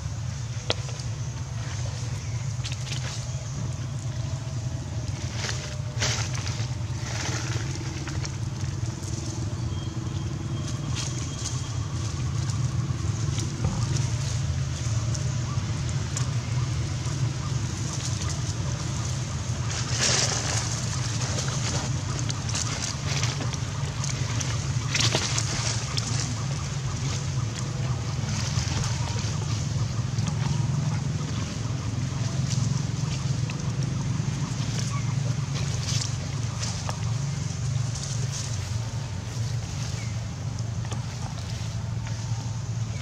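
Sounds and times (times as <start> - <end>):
dry leaves rustling: 0.0 - 43.0
steady low rumble: 0.0 - 43.0.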